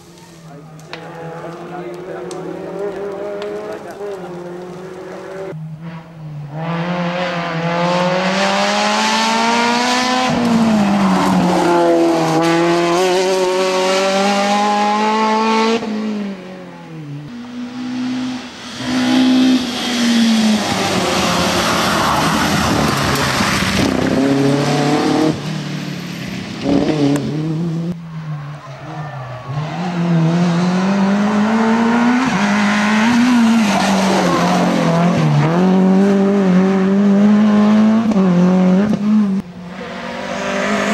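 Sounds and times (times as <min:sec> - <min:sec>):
rally car engines at full throttle: 0:00.0 - 0:40.9.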